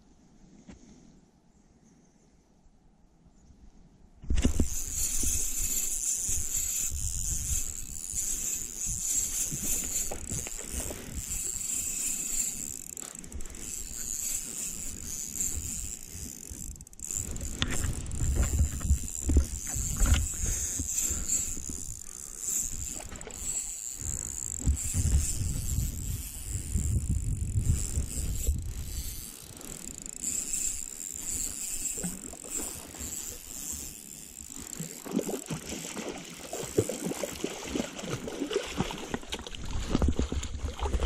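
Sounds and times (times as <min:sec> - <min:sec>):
fishing reel whirring: 0:04.3 - 0:41.0.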